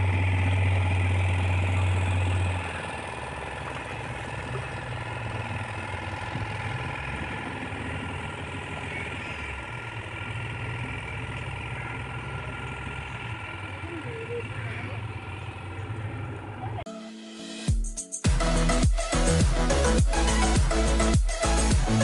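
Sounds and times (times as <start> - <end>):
deep loud drone: 0.0 - 16.9, 18.3 - 22.0
motorboat engine hum: 0.0 - 16.9, 18.4 - 22.0.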